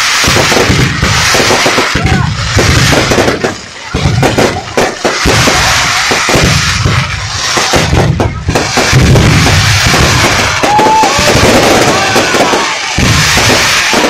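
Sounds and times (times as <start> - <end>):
fireworks bangs: 0.0 - 14.0
fireworks crackle: 0.0 - 14.0.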